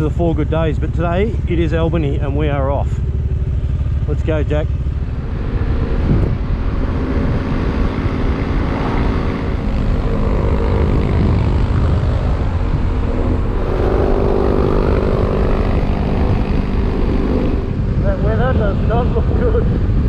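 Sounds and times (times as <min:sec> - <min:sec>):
motorcycle engine drone: 0:00.0 - 0:20.0
wind rush: 0:03.6 - 0:20.0.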